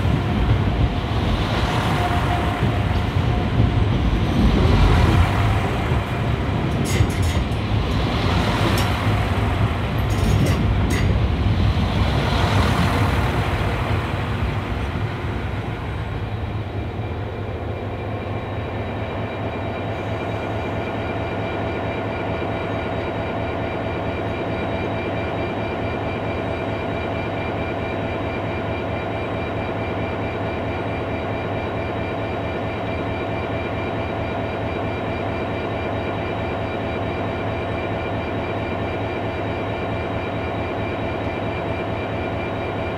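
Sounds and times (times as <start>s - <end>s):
diesel locomotive engine drone: 0.0s - 42.9s
rush of train noise: 0.0s - 42.9s.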